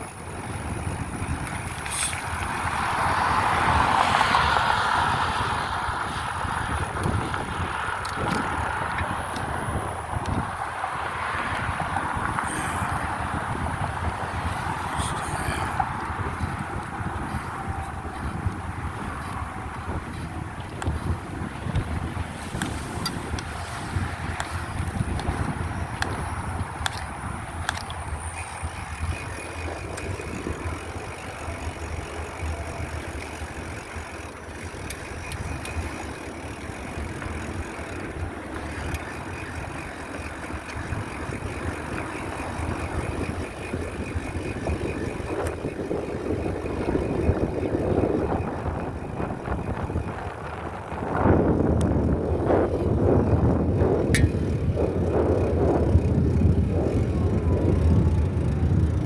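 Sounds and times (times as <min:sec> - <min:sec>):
bicycle tyre and road noise: 0:00.0 - 0:59.0
wind on microphone: 0:00.0 - 0:59.0.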